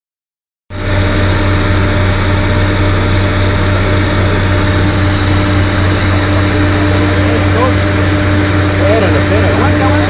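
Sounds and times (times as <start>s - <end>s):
drilling rig engine drone: 0.7s - 10.0s.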